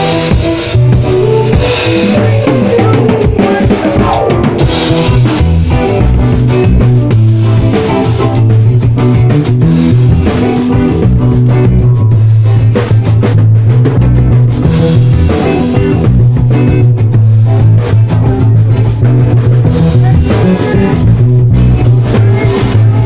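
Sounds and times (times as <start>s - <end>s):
bass: 0.0s - 23.0s
drum kit: 0.0s - 23.0s
guitar: 0.0s - 23.0s.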